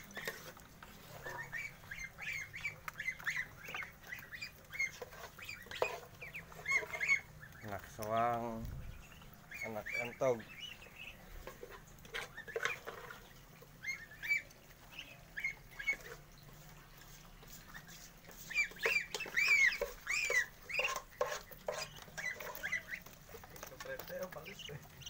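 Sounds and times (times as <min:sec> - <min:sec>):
goslings and ducklings peeping: 0:00.0 - 0:25.0.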